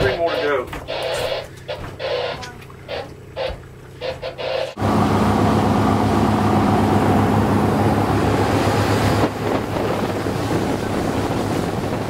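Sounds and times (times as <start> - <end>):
boat engines droning: 0.0 - 12.0
water rushing: 0.0 - 12.0.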